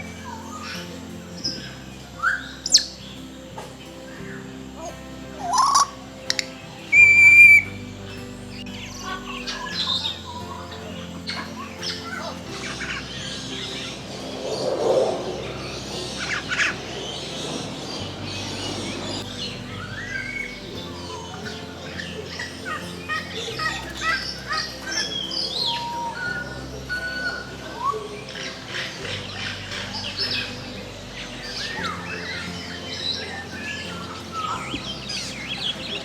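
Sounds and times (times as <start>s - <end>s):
background music chords: 0.0s - 36.0s
birds chirping and calling: 0.0s - 36.0s.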